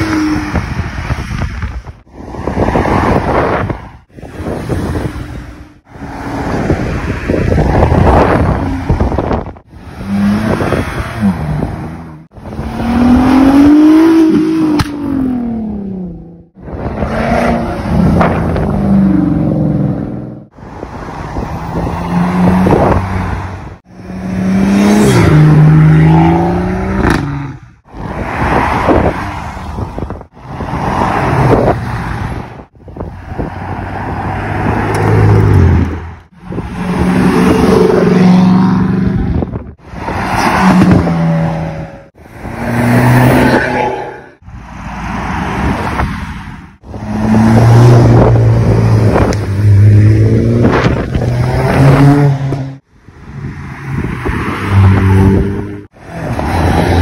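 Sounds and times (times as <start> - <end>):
cars revving and accelerating: 0.0 - 57.0.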